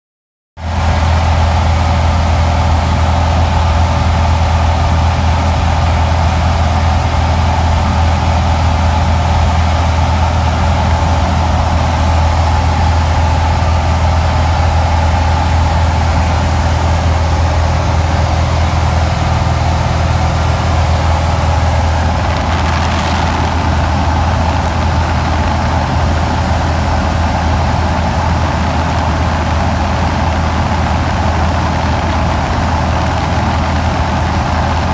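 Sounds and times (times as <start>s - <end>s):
propeller plane engine drone: 0.6s - 34.9s.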